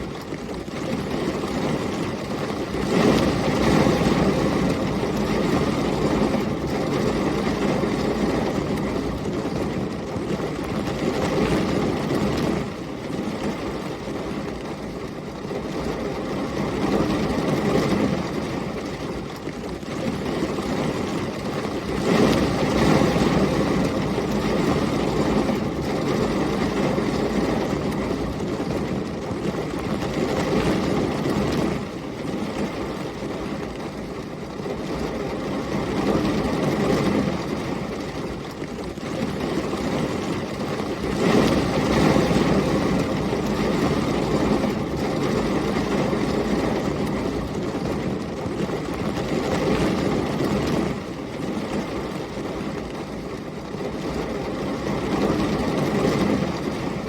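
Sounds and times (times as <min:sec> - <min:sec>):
heavy rain: 0:00.0 - 0:57.0
storm wind: 0:00.0 - 0:57.0.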